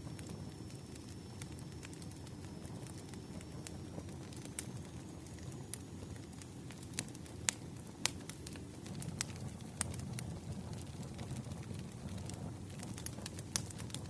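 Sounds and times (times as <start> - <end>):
fire low rumble: 0.0 - 14.0
firewood crackles and pops: 0.0 - 14.0.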